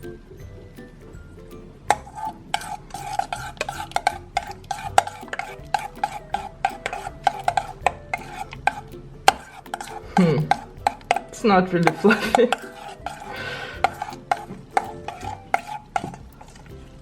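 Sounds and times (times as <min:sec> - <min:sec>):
utensil scraping a bowl: 0:01.9 - 0:17.0.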